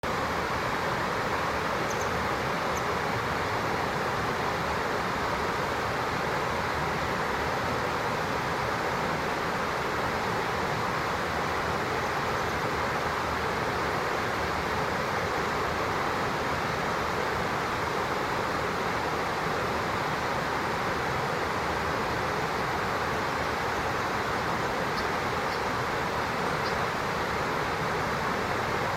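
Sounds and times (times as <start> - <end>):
stream rushing: 0.0 - 28.9.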